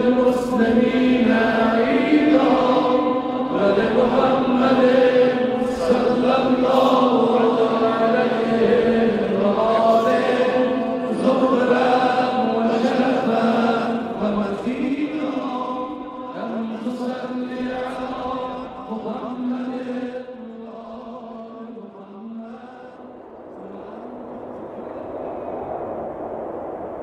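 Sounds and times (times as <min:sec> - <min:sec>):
voices chanting in unison: 0:00.0 - 0:24.2.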